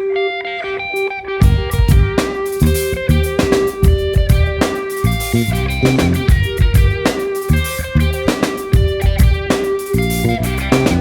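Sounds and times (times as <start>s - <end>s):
electric guitar: 0.0s - 11.0s
drum kit beat: 1.4s - 11.0s.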